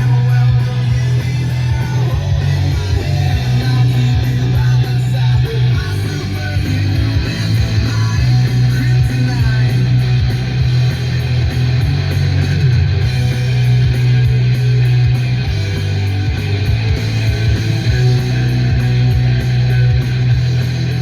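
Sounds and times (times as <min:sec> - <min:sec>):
rock music with electric guitar: 0:00.0 - 0:21.0.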